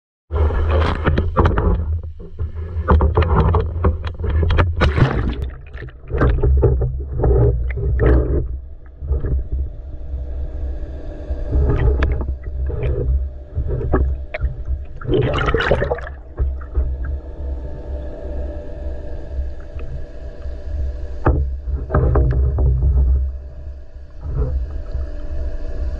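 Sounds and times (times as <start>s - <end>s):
steady low hum: 0.3s - 25.9s
water rushing and bubbling: 0.4s - 25.9s.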